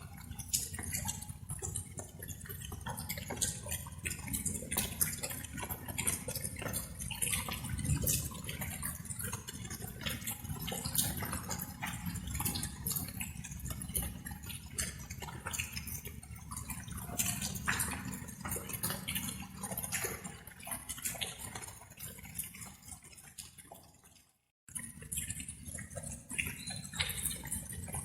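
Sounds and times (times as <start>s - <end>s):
rain drops splashing: 0.0s - 24.0s, 24.7s - 28.0s.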